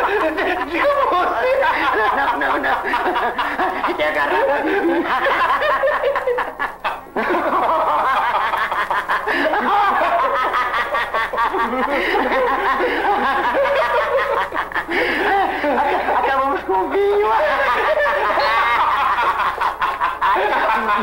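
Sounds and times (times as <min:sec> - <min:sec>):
men laughing hard: 0:00.0 - 0:21.0.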